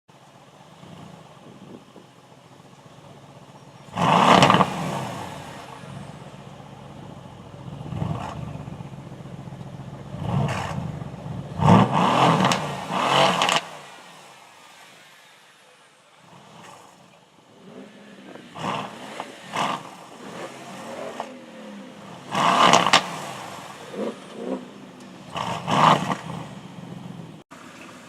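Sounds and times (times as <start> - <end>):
sports car engine revving: 0.2 - 14.9, 16.1 - 28.0.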